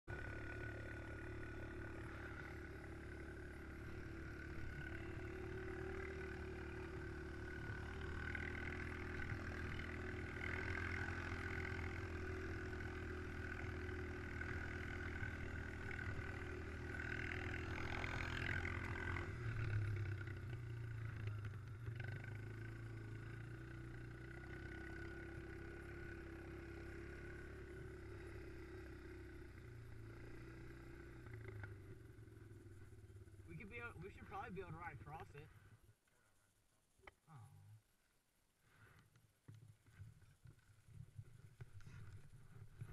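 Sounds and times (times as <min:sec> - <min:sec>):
atv engine running: 0:00.1 - 0:35.9, 0:38.6 - 0:42.9.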